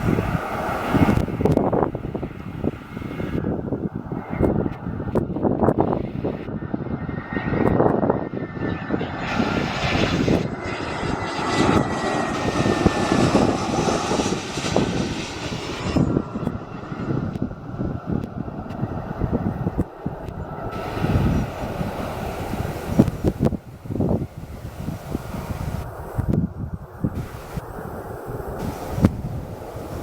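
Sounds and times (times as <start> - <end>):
jet airliner passing: 0.0 - 30.0
wind buffeting microphone: 0.0 - 30.0.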